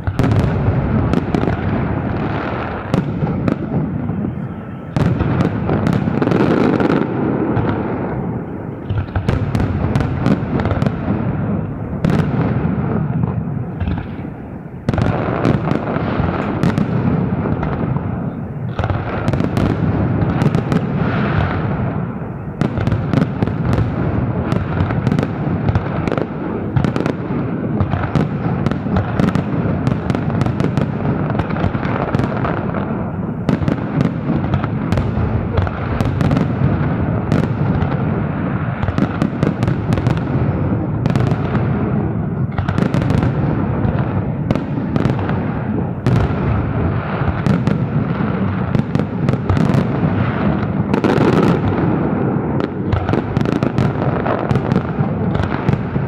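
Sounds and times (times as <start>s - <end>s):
firework bursts and crackle: 0.0s - 56.0s.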